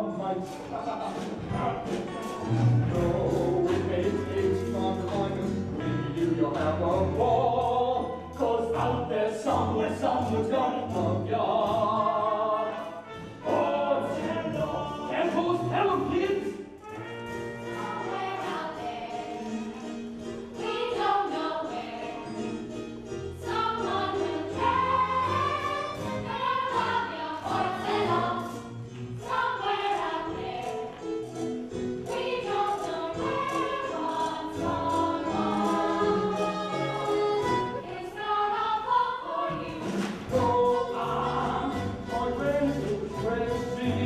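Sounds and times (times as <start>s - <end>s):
instrumental accompaniment: 0.4s - 38.2s
chorus singing: 0.8s - 44.0s.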